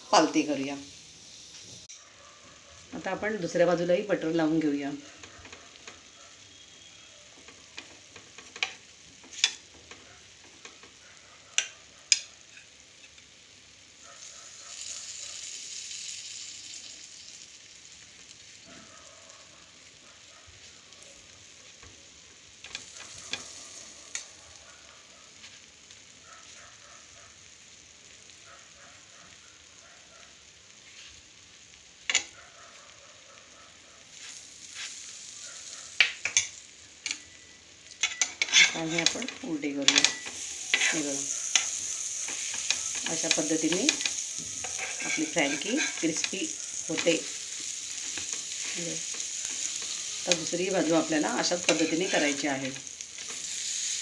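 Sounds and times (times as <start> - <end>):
rolls sizzling on a pan: 0.0 - 54.0.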